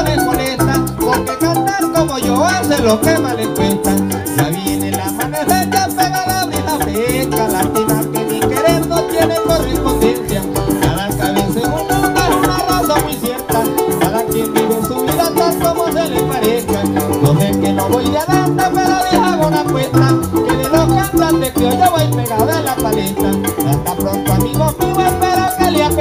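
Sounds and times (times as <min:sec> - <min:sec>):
harp picking fast melody: 0:00.0 - 0:26.0
maracas shaking: 0:00.0 - 0:26.0
strummed cuatro: 0:00.0 - 0:26.0.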